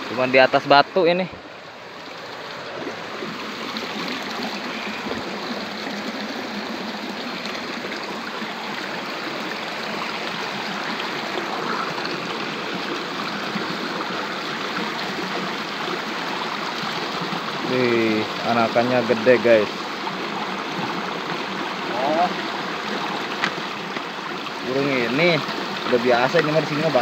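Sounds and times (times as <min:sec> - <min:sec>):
stream water rushing over rocks: 0:00.0 - 0:27.0.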